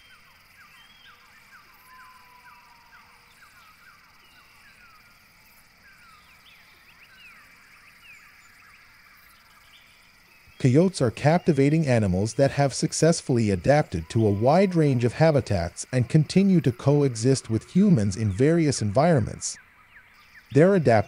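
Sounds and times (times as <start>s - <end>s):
birds chirping: 0.0s - 21.0s
faint steady hiss: 0.0s - 21.0s.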